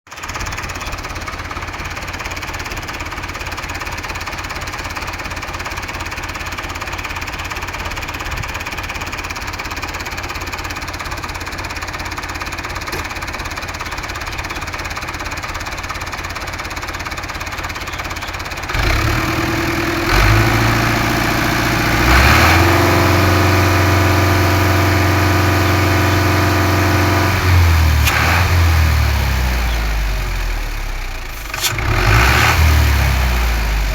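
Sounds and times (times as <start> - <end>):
tractor diesel engine idling and revving: 0.1 - 33.9.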